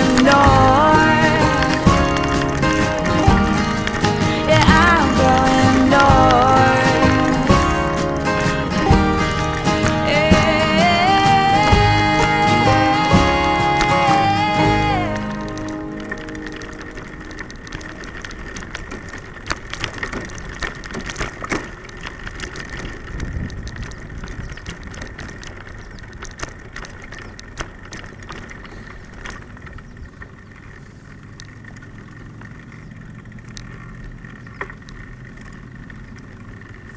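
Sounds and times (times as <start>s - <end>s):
bicycle rattling on wooden boards: 0.0s - 36.9s
bicycle tyres rolling: 0.0s - 36.9s.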